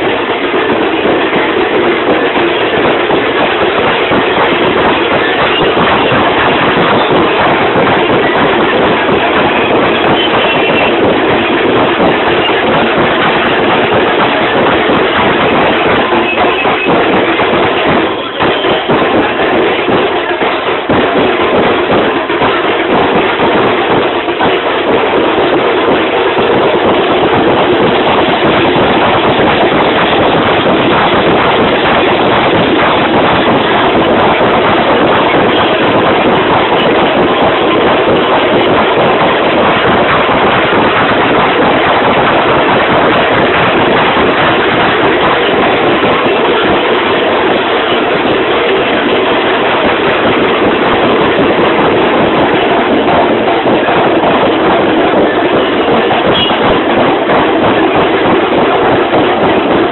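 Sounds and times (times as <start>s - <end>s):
loud street procession music: 0.0s - 59.9s
percussive hits: 0.0s - 59.9s.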